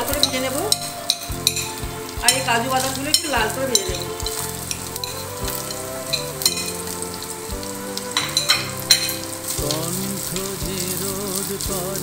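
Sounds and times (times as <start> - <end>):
nuts sizzling in hot ghee: 0.0 - 12.0.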